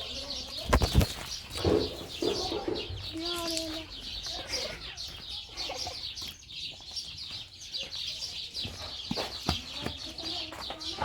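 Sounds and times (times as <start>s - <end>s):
many birds chirping: 0.0s - 11.0s.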